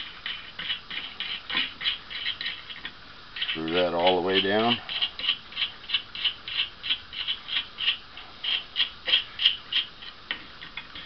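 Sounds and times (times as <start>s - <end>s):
nut squeaking on threaded rod: 0.2s - 11.0s.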